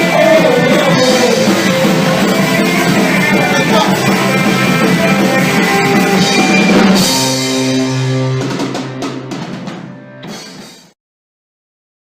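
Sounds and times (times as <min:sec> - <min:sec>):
drum hits: 0:00.0 - 0:10.9
rock band music: 0:00.0 - 0:11.0.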